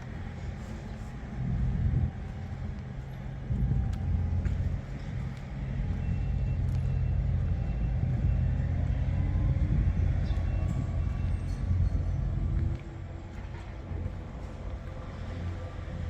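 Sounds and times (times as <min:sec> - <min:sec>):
combine harvester rumbling: 0:00.0 - 0:16.0.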